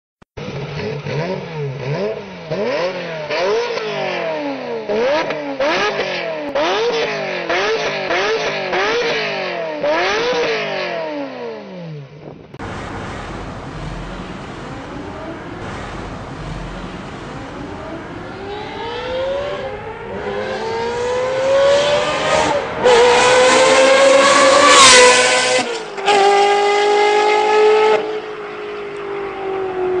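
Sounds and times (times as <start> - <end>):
car engine revving: 0.4 - 11.4, 12.6 - 30.0.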